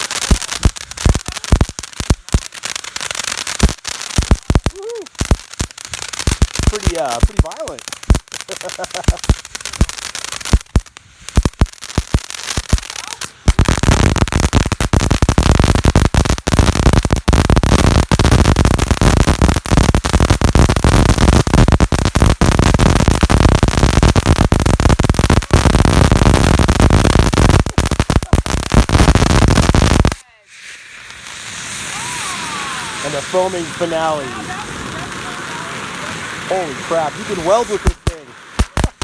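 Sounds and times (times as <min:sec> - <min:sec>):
firework pops and crackling: 0:00.0 - 0:39.0.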